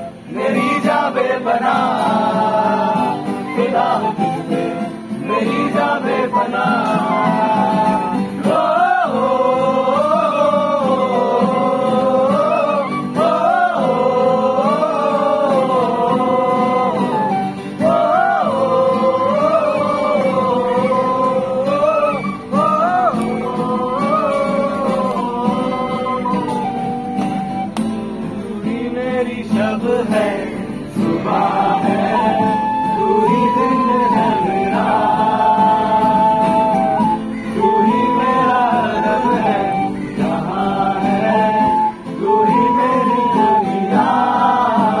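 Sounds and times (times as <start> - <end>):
men singing: 0.0 - 27.6, 28.2 - 45.0
bamboo flute: 0.0 - 30.3, 31.1 - 45.0
acoustic guitars: 0.0 - 45.0.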